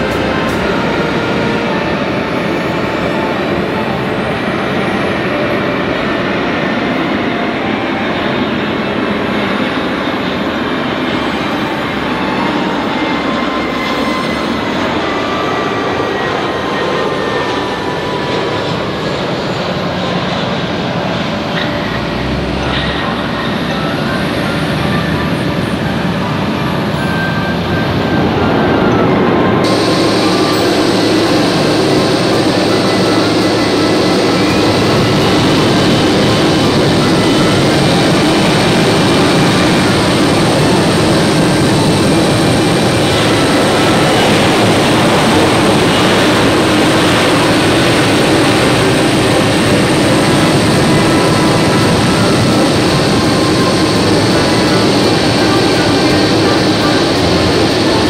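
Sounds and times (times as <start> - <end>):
jet engines roaring with whine: 0.0 - 58.0.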